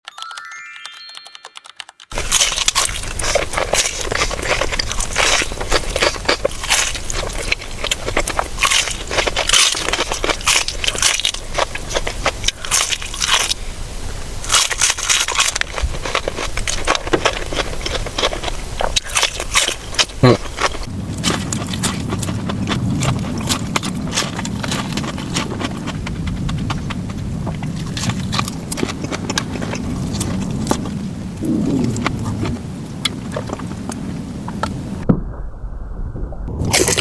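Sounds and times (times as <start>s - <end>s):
crunching and chewing fried chicken: 2.1s - 34.8s, 36.6s - 37.0s.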